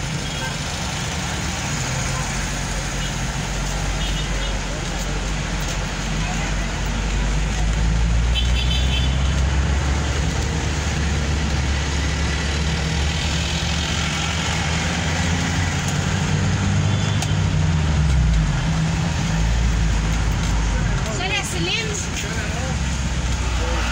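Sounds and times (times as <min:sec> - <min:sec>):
car engine rumble and road noise: 0:00.0 - 0:23.9.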